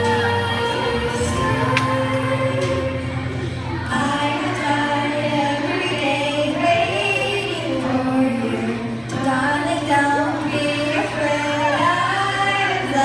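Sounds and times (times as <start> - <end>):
accompanying music: 0.0 - 13.0
girl singing into microphone: 0.0 - 13.0.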